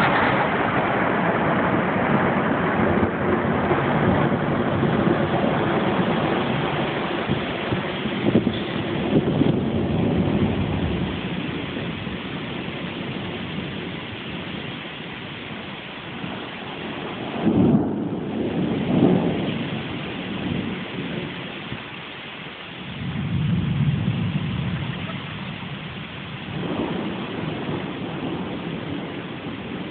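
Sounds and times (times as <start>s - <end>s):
rain hissing: 0.0s - 29.9s
thunder rumbling: 0.0s - 29.9s.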